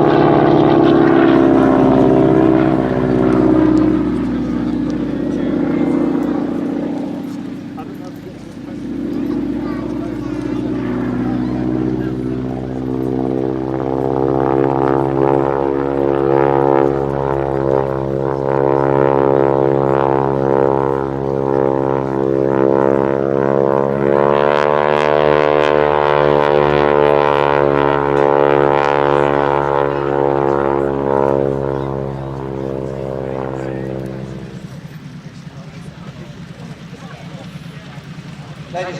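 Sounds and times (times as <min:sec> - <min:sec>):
radial engine and propeller droning: 0:00.0 - 0:38.9.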